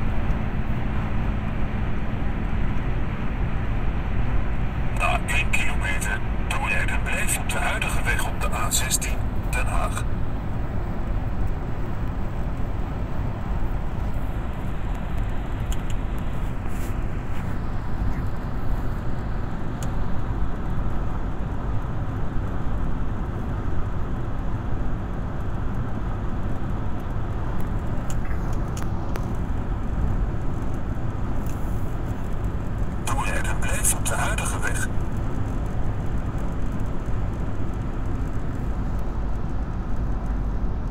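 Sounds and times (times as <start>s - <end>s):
car road rumble inside cabin: 0.0s - 40.9s.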